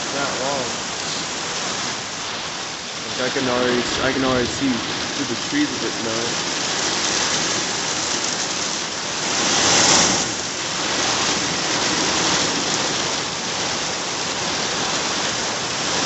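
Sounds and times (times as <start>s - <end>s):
heavy rain in wind: 0.0s - 16.0s.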